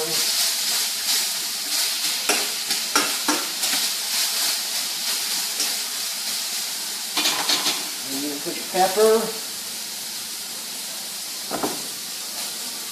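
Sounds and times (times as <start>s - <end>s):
green beans sizzling in oil: 0.0s - 12.9s.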